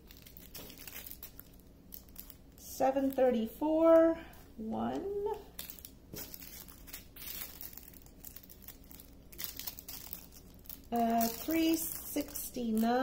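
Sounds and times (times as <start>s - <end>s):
plastic bags crinkling: 0.0s - 4.1s, 5.2s - 13.0s.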